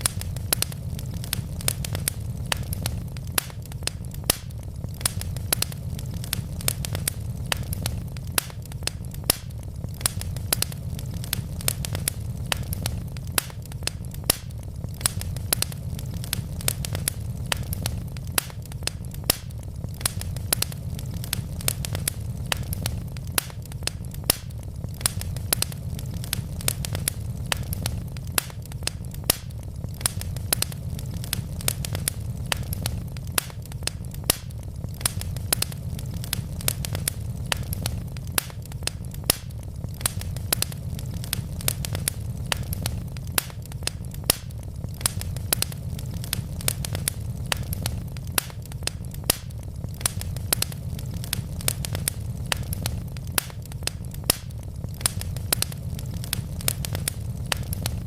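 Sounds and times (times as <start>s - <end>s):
burning logs crackling and popping: 0.0s - 58.0s
steady low rumble: 0.0s - 58.0s.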